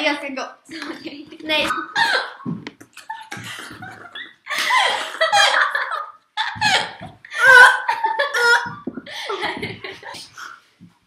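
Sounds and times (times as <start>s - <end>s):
girls laughing hard: 0.8s - 10.5s.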